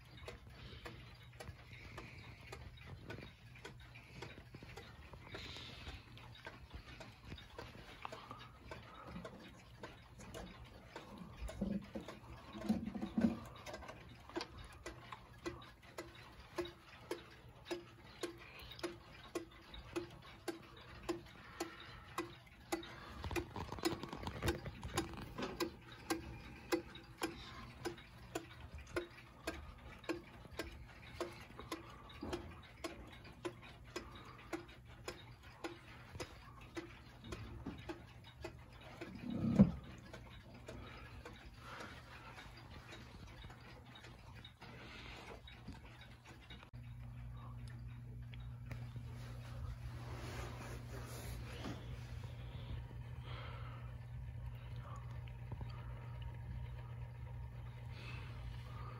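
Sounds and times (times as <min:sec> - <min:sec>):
wall clock ticking: 0:00.0 - 0:58.9.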